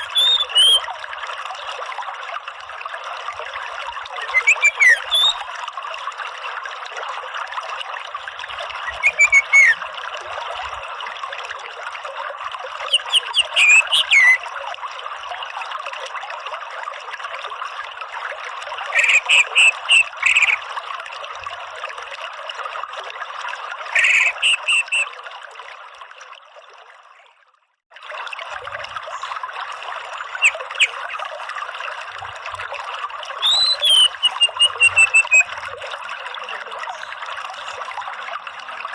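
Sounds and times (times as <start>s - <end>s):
trickle of running water: 0.0s - 38.9s.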